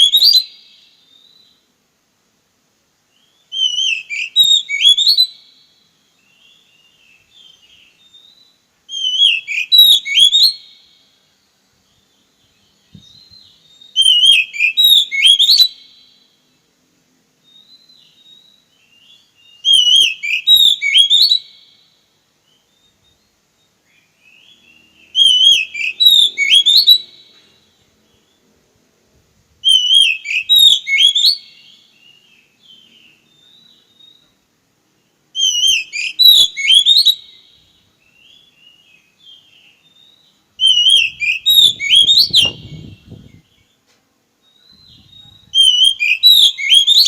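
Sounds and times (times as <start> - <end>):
bird warbling whistled song: 0.0 - 1.6, 3.1 - 10.9, 11.8 - 16.2, 17.4 - 28.4, 29.6 - 34.4, 35.0 - 43.8, 44.4 - 47.0
soft faint bird notes: 0.0 - 47.0.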